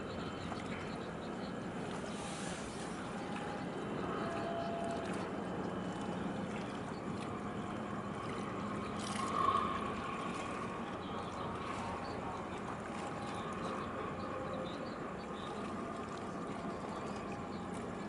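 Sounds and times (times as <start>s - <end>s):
distant ship engines humming: 0.0s - 18.0s
water lapping: 0.0s - 18.0s.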